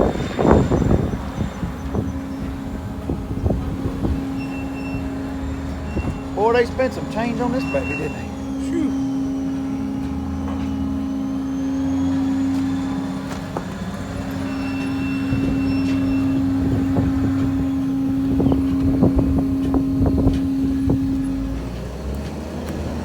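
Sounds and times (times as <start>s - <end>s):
sawmill machinery humming: 0.0s - 23.0s.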